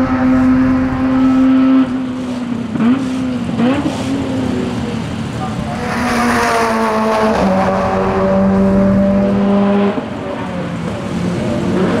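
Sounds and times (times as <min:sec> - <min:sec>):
race car engine: 0:00.0 - 0:12.0.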